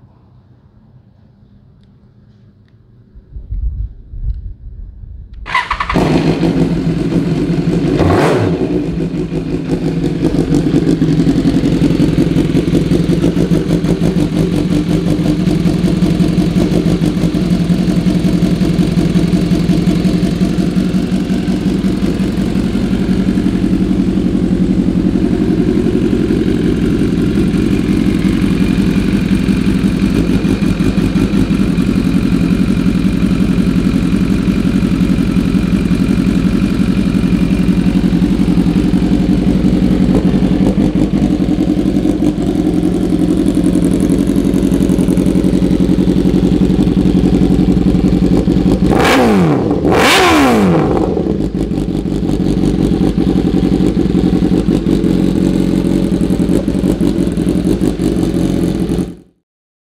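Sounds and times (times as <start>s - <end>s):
motorcycle engine idling: 5.5s - 59.4s.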